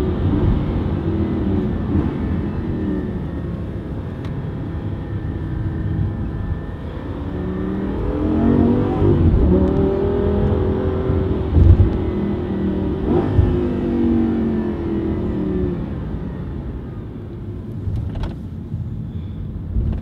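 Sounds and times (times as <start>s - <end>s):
car engine accelerating: 0.0s - 18.4s.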